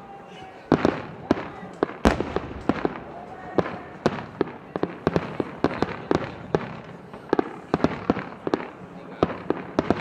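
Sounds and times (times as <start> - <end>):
fireworks sharp bangs: 0.7 - 10.0.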